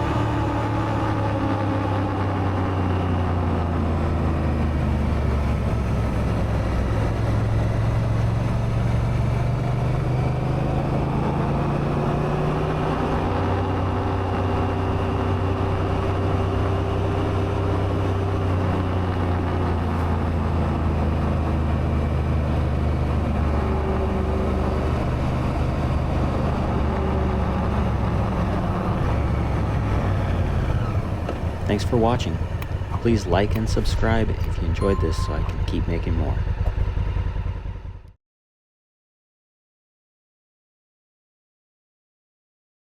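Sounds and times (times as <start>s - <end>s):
motorcycle engine running: 1.3s - 38.1s.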